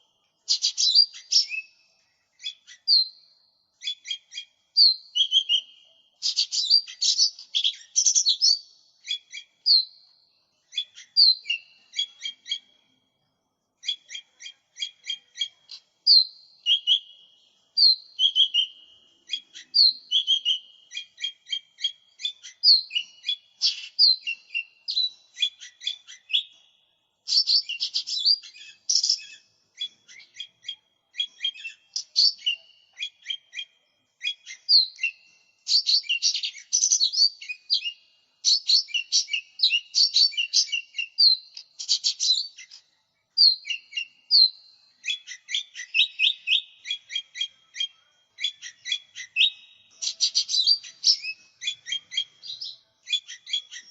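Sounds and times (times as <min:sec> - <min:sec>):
bird singing fast varied song: 0:00.0 - 0:53.9.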